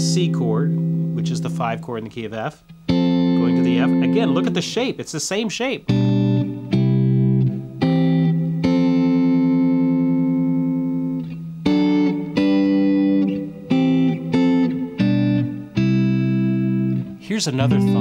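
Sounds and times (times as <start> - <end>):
clean electric guitar chords: 0.0 - 5.0, 5.8 - 18.0.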